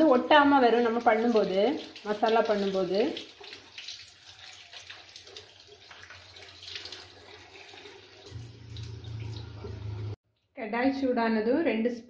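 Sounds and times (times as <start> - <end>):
tap water running into strainer: 0.0 - 10.2
water splashing into sink: 0.0 - 10.2.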